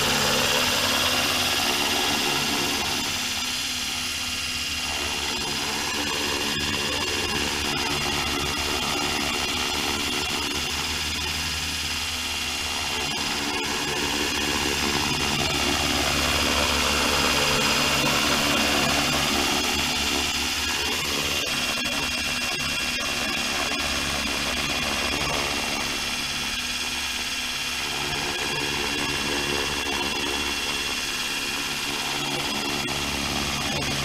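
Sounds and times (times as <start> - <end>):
rc helicopter drone and whine: 0.0 - 34.0.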